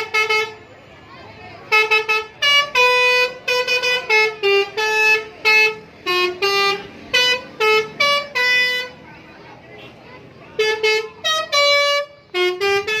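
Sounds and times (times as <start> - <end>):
musical bus air horn honks: 0.0 - 0.9, 1.6 - 9.0, 9.8 - 13.0.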